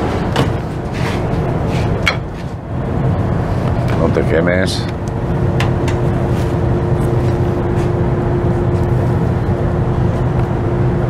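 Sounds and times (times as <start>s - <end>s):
extraction fans humming: 0.0s - 11.0s.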